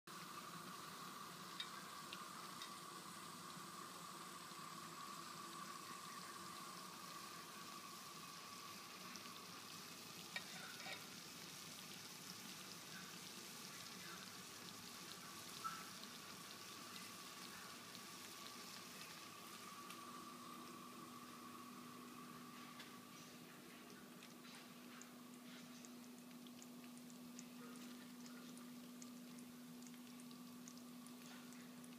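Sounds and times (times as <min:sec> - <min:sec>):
food sizzling in a pan: 0:00.1 - 0:31.9.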